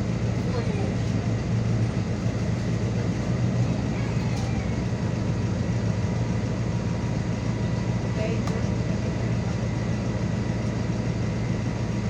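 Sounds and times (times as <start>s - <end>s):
bus engine drone: 0.0s - 12.0s
bus running noise: 0.0s - 12.0s.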